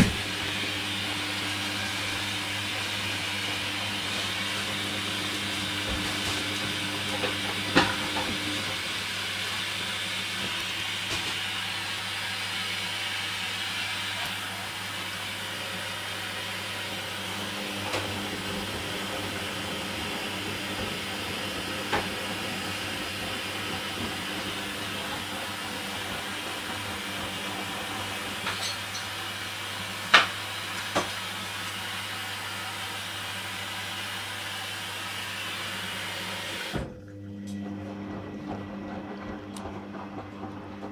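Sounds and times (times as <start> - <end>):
washing machine humming: 0.0 - 40.9.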